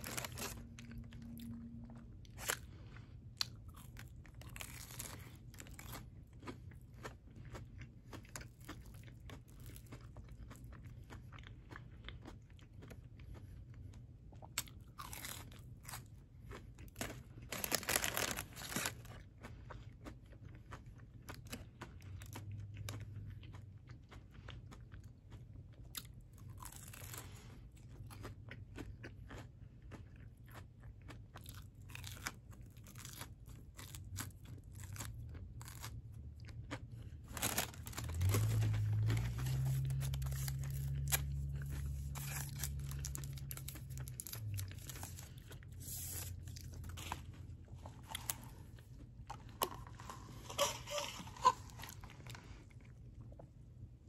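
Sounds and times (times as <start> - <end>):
crunching and chewing food: 0.0 - 54.0
low steady hum: 0.0 - 54.0.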